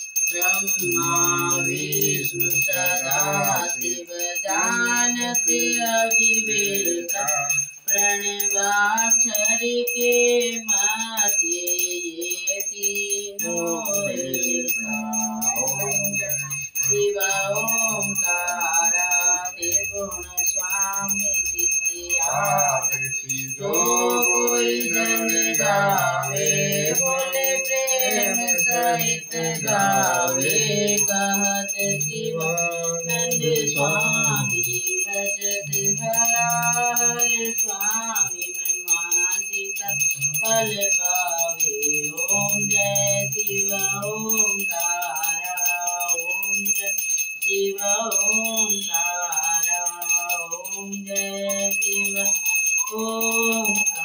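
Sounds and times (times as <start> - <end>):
hand bell ringing: 0.0 - 54.0.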